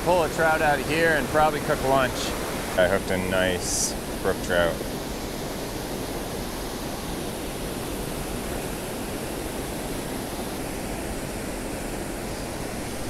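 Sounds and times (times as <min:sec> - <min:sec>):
river rushing over falls: 0:00.0 - 0:13.0.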